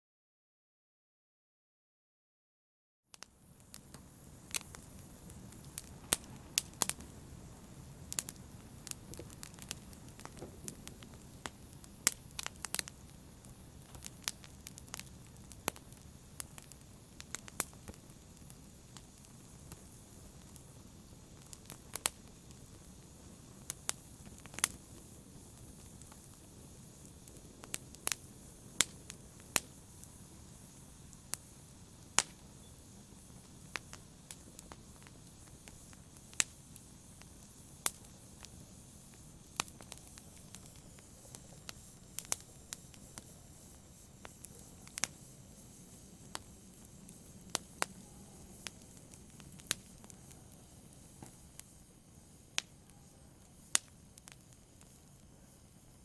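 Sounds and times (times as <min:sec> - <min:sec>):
fire crackling and popping: 0:03.1 - 0:56.0.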